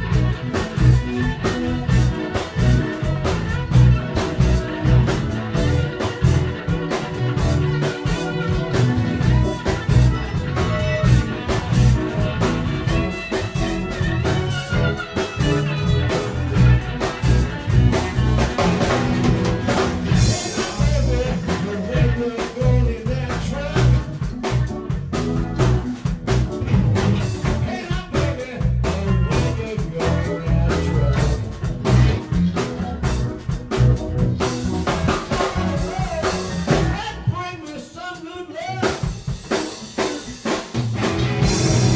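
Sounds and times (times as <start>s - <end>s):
bass guitar: 0.0s - 41.9s
drum kit: 0.0s - 41.9s
electric guitars: 0.0s - 41.9s
keyboards: 0.0s - 41.9s.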